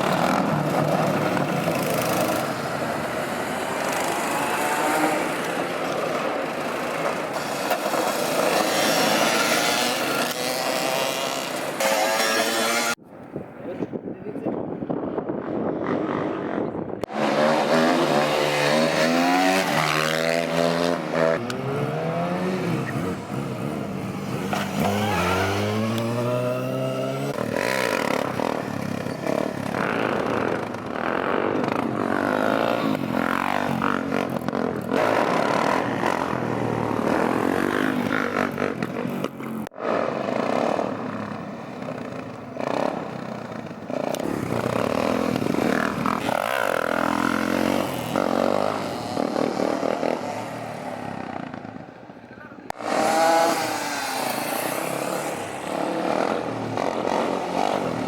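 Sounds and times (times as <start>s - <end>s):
motorbike engines revving: 0.0s - 13.0s, 15.4s - 58.0s.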